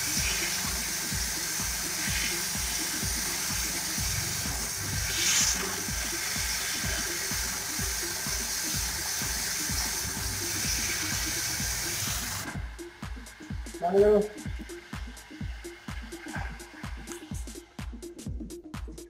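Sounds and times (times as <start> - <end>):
pressure washer spraying: 0.0 - 17.6
background music with beat: 0.0 - 19.0.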